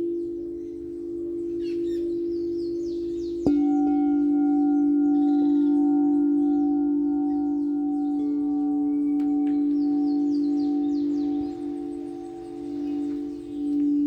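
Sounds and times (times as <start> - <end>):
singing bowls ringing: 0.0 - 14.0.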